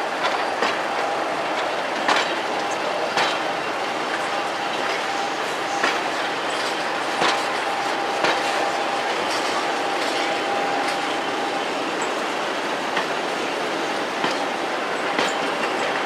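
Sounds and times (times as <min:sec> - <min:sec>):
train rumble and hiss: 0:00.0 - 0:16.0
train wheels clicking over rail joints: 0:00.0 - 0:16.0.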